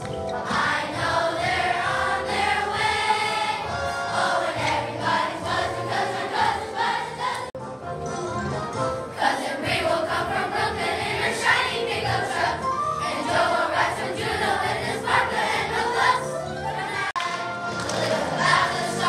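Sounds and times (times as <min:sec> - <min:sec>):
children's choir singing: 0:00.0 - 0:07.6, 0:08.9 - 0:19.0.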